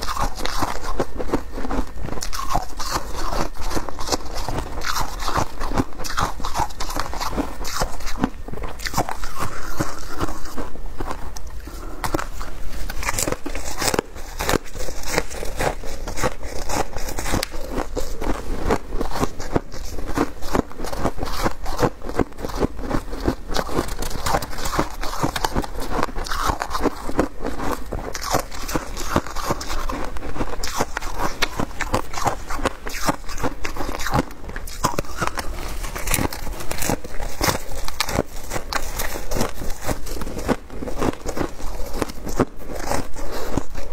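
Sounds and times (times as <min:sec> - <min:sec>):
chewing ice: 0:00.0 - 0:43.9
hands scooping crunching ice: 0:00.0 - 0:43.9.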